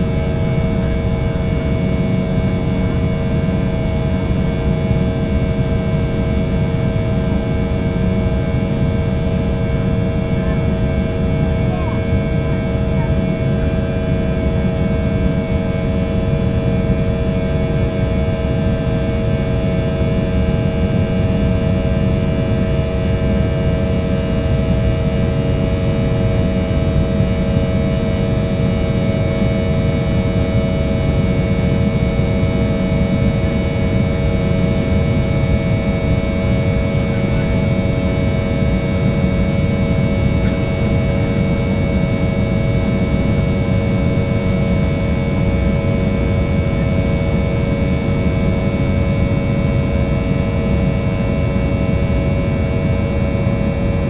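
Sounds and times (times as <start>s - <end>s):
airplane cabin engine drone: 0.0s - 54.0s.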